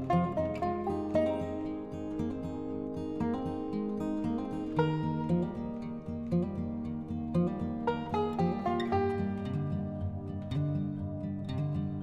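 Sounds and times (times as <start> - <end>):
acoustic guitar strummed and plucked: 0.0 - 12.0.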